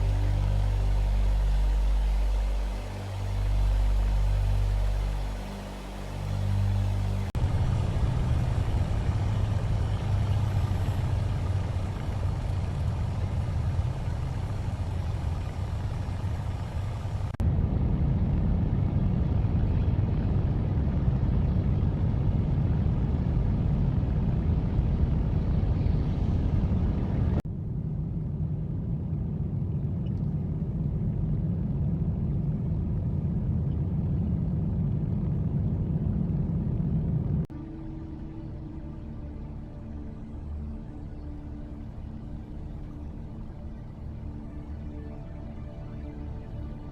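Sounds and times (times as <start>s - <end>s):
aircraft engine rumble: 0.0s - 46.9s.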